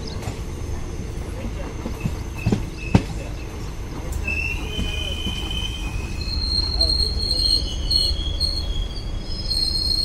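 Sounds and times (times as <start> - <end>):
train wheels and brakes squealing: 1.8 - 10.0.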